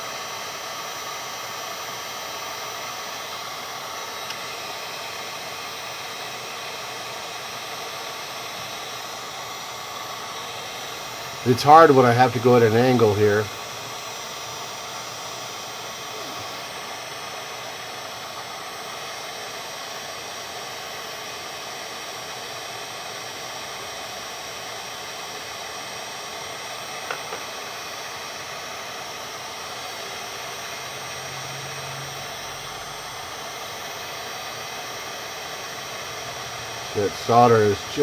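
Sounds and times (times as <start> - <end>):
heat gun blowing hot air: 0.0 - 38.0.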